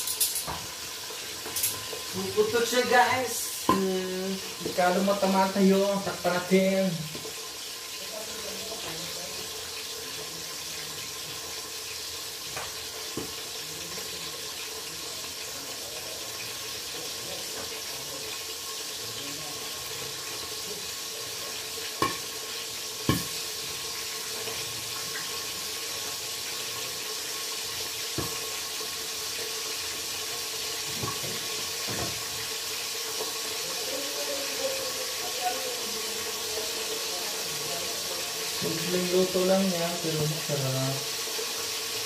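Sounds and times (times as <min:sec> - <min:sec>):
fish sizzling in pot: 0:00.0 - 0:42.0.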